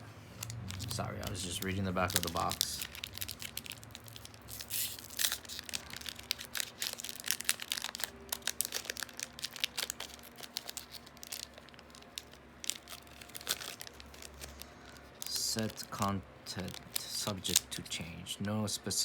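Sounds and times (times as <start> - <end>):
packaging crinkling and tearing: 0.4 - 18.0.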